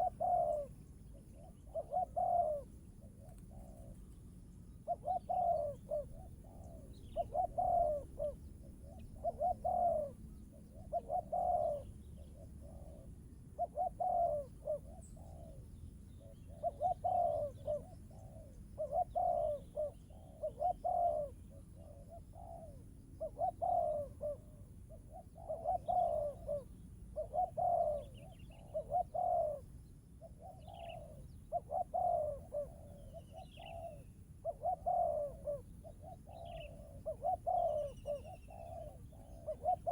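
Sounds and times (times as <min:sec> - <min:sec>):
dove cooing: 0:00.0 - 0:04.2, 0:04.8 - 0:39.9
small birds chirping: 0:00.0 - 0:39.9.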